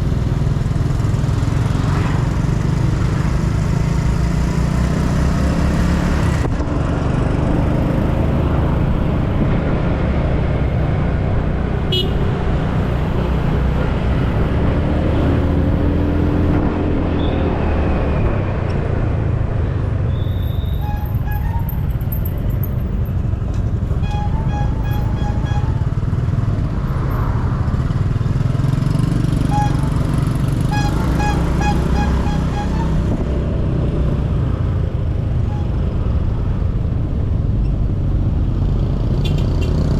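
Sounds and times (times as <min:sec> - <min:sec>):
passing traffic: 0:00.0 - 0:39.9.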